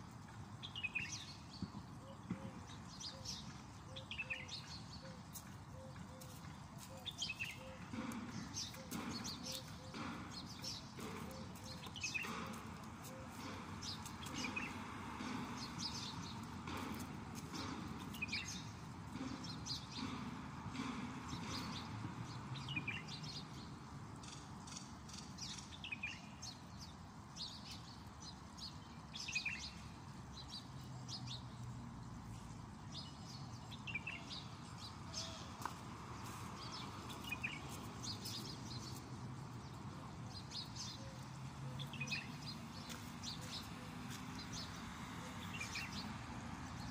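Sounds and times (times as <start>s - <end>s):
birds chirping: 0.2s - 46.9s.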